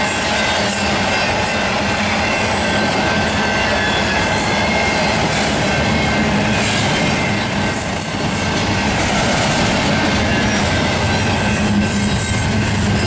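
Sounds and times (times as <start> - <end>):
freight train wheels rumbling on rail: 0.0 - 13.0
high wheel squeal: 0.0 - 13.0.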